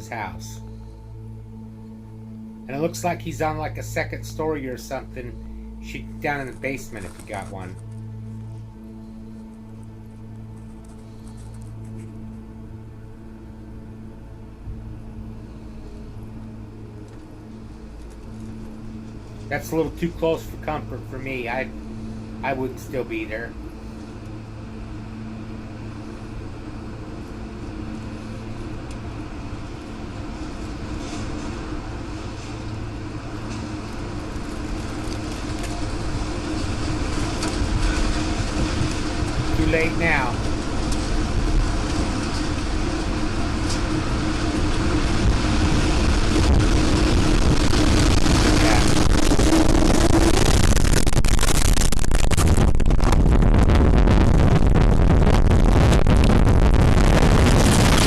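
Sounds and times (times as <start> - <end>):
tornado wind roaring: 0.0 - 12.0, 13.0 - 58.0
steady hum: 0.0 - 58.0.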